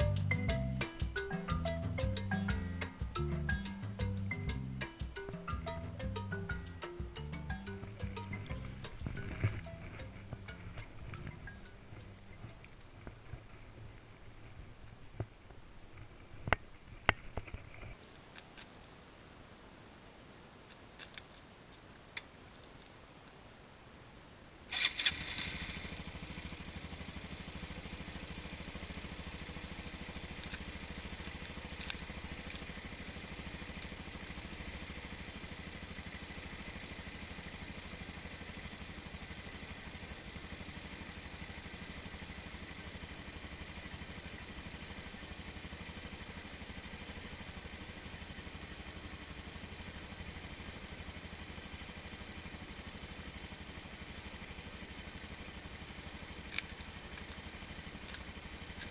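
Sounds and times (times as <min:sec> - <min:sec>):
motorcycle engine idling: 0:00.0 - 0:13.6, 0:25.2 - 0:58.9.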